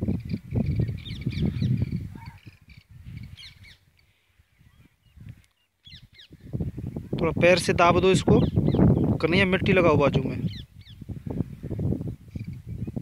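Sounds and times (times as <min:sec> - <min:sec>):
birds chirping: 0:00.0 - 0:07.4, 0:08.0 - 0:13.0.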